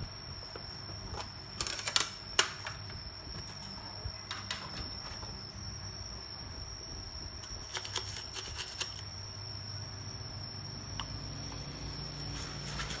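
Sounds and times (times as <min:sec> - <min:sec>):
low equipment hum: 0:00.0 - 0:13.0.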